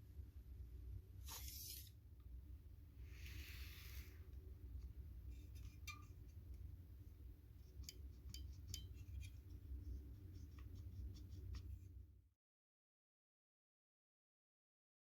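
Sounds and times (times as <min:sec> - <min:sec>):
low steady hum: 0:00.0 - 0:12.3.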